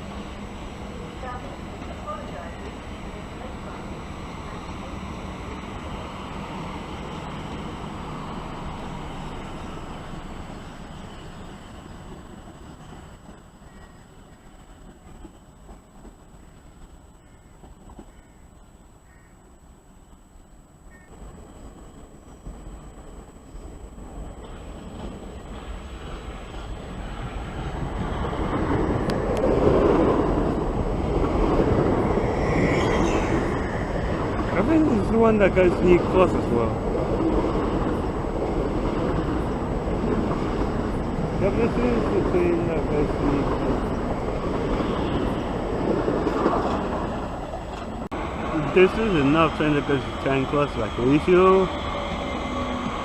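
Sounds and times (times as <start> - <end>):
electric train rumbling past: 0.0 - 53.0.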